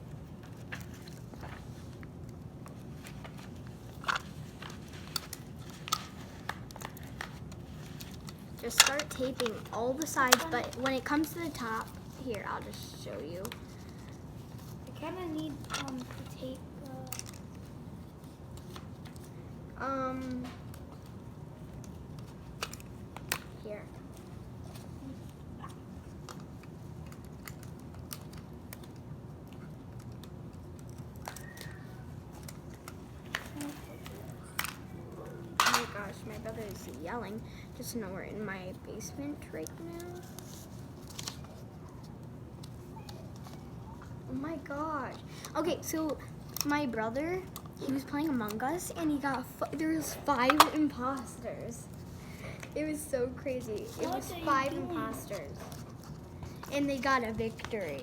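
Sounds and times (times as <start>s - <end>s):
paper and plastic crinkling: 0.3s - 19.4s, 20.2s - 58.0s.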